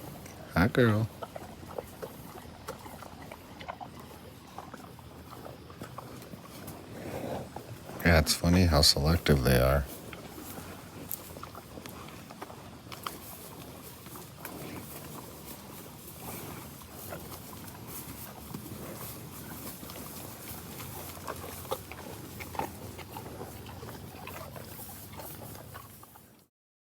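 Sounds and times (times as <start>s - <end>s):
cows crunching apples: 0.0s - 26.5s.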